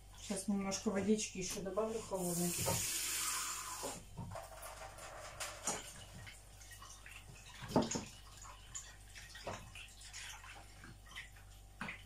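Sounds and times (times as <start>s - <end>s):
water splashing in a mixing bowl: 0.0s - 3.9s, 4.6s - 12.0s.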